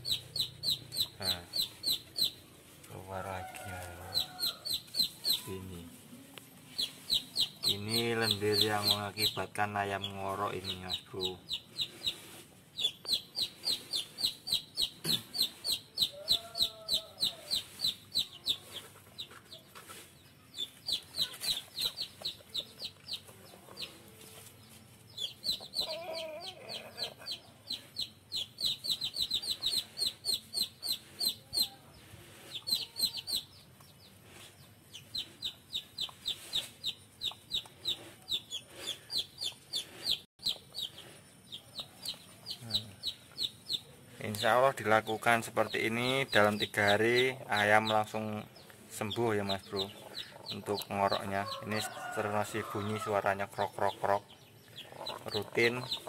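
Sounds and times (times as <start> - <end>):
chickens peeping: 0.0 - 56.0.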